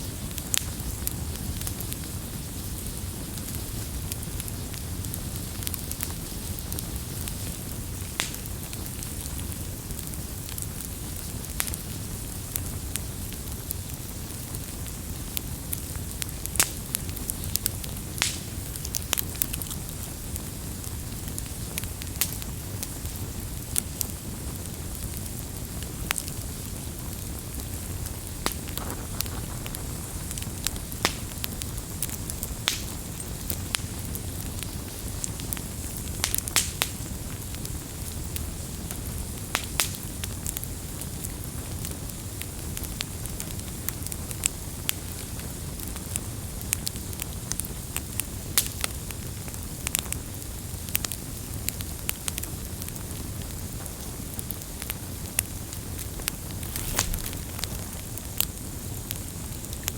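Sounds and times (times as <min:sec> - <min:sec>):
wood campfire crackling: 0:00.0 - 0:59.9.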